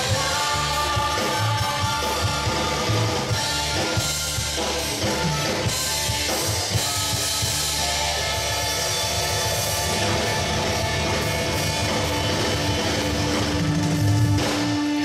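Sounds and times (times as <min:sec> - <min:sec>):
drum kit: 0:00.0 - 0:15.0
electric guitar: 0:00.0 - 0:15.0
live rock band playing: 0:00.0 - 0:15.0.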